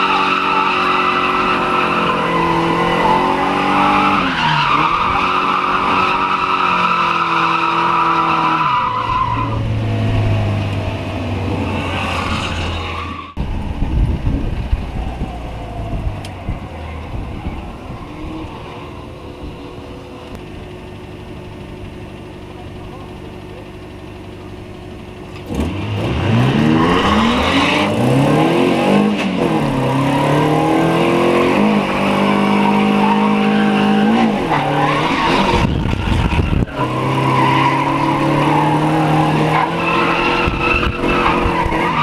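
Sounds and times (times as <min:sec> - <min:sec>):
car engine at high revs: 0:00.0 - 0:42.0.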